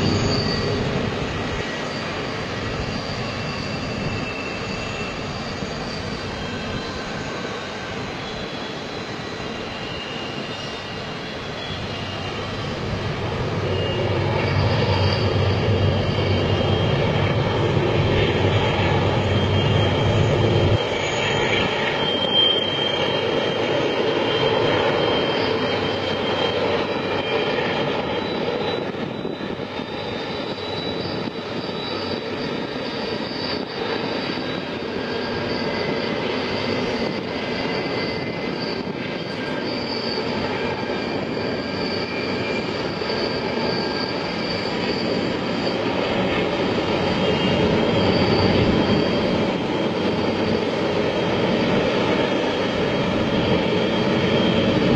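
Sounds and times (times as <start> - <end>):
freight train rumbling: 0.0 - 54.9
wheel squeals: 0.0 - 54.9.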